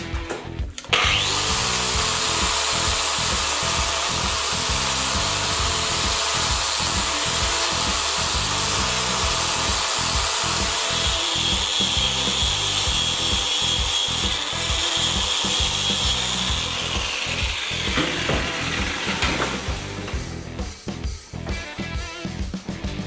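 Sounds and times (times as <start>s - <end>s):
angle grinder grinding steel: 0.8s - 22.2s.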